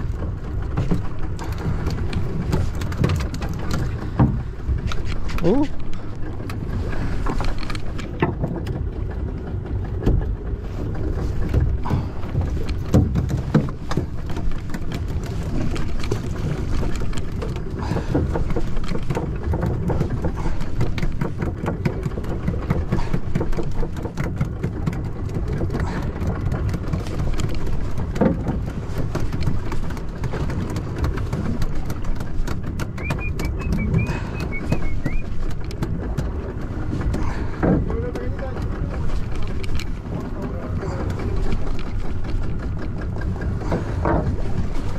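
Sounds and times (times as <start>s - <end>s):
water washing around boat: 0.0s - 44.9s
wind rumble: 0.0s - 44.9s.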